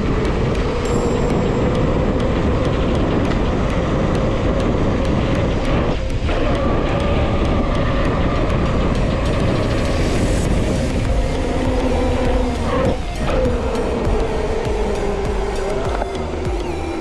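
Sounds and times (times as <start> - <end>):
faint whine rising in pitch: 0.0 - 17.0
wind rushing on microphone: 0.0 - 17.0.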